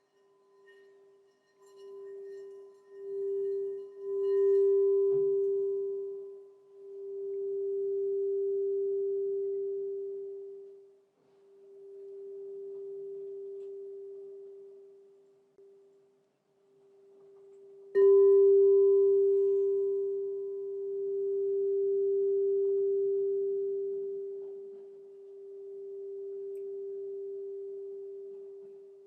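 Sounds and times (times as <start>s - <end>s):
singing bowl tone: 0.0s - 15.9s, 17.0s - 29.0s.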